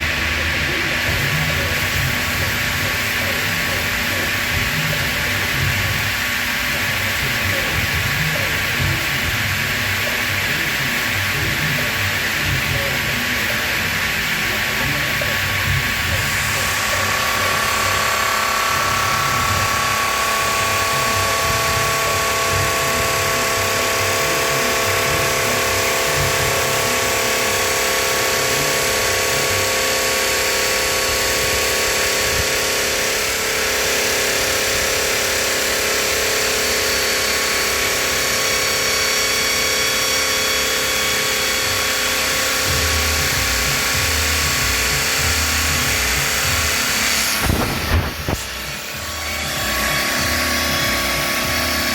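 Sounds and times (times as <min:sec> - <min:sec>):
saw blade whine: 0:00.0 - 0:51.9.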